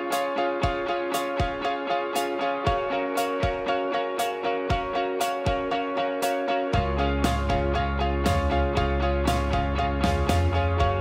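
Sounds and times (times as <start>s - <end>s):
plucked guitar music over a beat: 0.0s - 11.0s.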